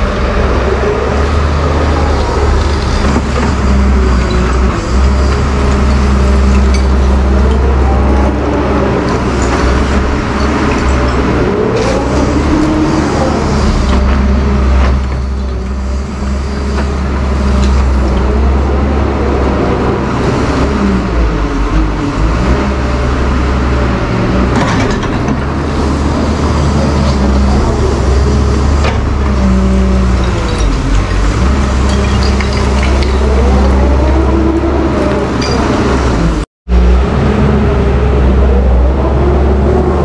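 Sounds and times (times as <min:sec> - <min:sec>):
excavator diesel engine under load: 0:00.0 - 0:40.0.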